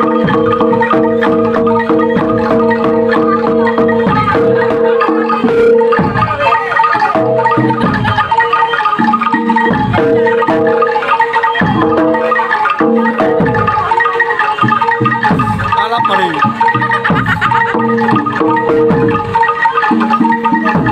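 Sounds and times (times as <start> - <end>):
metallophone strokes falling in pitch: 0.0 - 20.9
metallophones ringing: 0.0 - 20.9.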